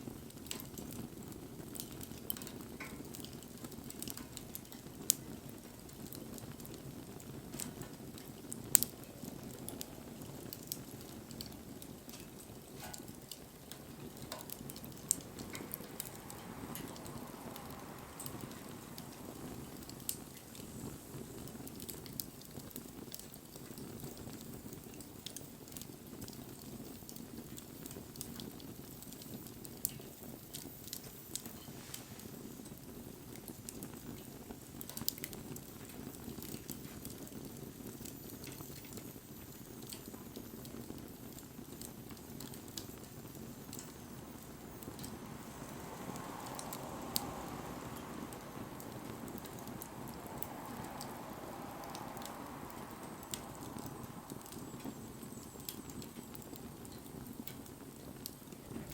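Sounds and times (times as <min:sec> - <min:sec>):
campfire flame rushing: 0:00.0 - 0:58.9
fire crackles and pops: 0:00.0 - 0:58.9.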